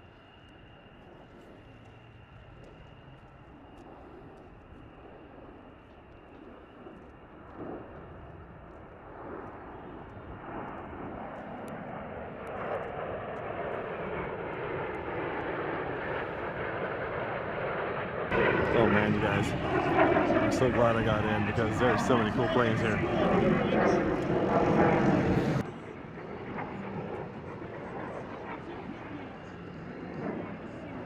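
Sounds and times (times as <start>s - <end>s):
airplane engine noise: 0.0s - 31.0s.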